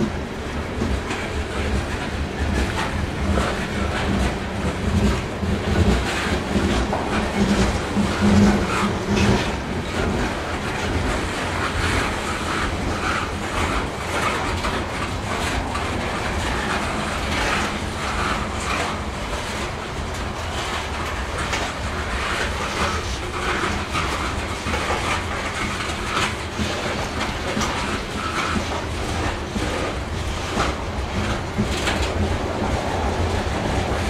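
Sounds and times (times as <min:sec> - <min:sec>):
clickety-clack of train wheels: 0:00.0 - 0:34.0
freight train wheels rumbling on rail: 0:00.0 - 0:34.0.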